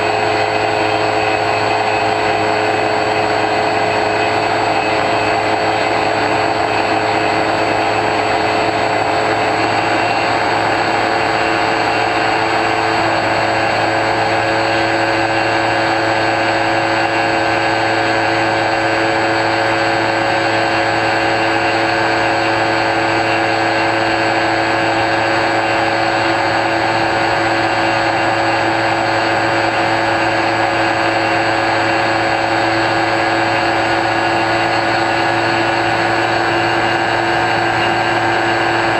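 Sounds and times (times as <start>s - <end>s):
electric motor whine: 0.0s - 38.9s
propeller air rush: 0.0s - 38.9s.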